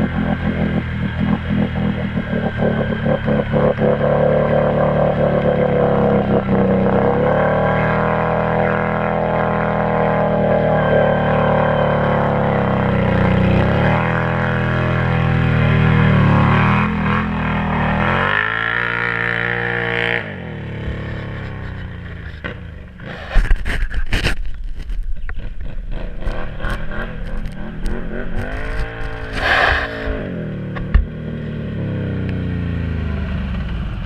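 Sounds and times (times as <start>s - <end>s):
quad engine revving: 0.0s - 23.8s, 25.3s - 34.0s.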